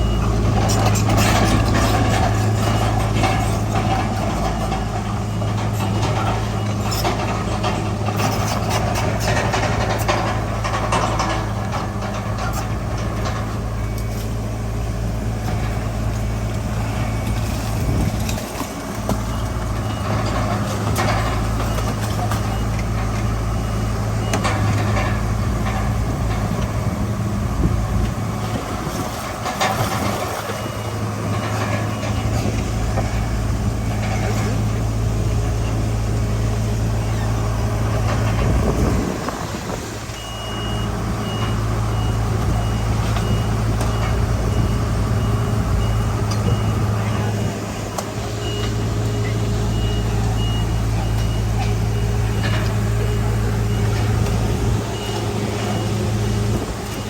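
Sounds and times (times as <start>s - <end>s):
faint reversing beep: 0.0s - 8.8s, 9.4s - 18.2s, 19.1s - 26.8s, 27.5s - 39.4s, 40.1s - 57.0s
heavy diesel engines running: 0.0s - 57.0s.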